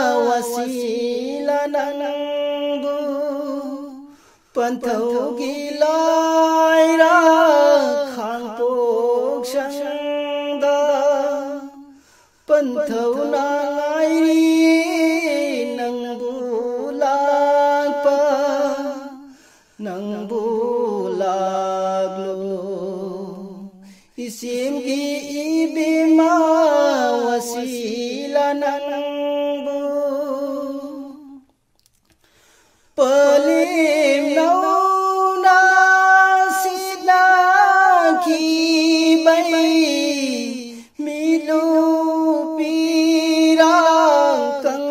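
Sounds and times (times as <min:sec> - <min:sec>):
solo voice singing unaccompanied: 0:00.0 - 0:31.5, 0:33.0 - 0:44.9.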